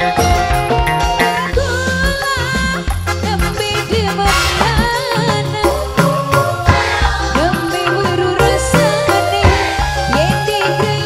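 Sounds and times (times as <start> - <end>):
drum and bass beat: 0.0 - 11.0.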